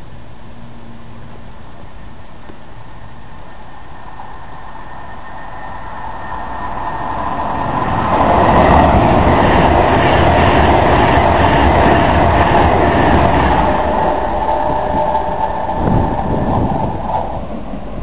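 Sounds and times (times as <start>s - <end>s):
steady whine: 0.0s - 18.0s
train passing at speed: 0.0s - 18.0s.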